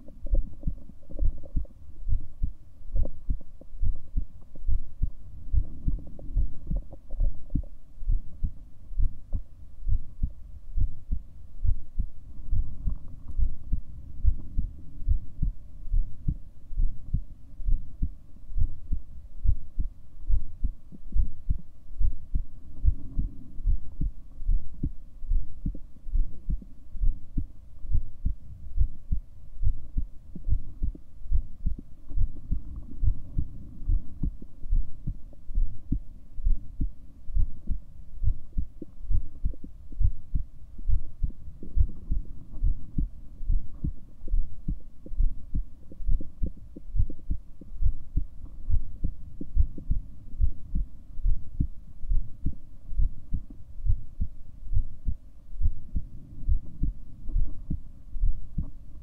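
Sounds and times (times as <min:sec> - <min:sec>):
heartbeat thumping: 0:00.0 - 0:59.0.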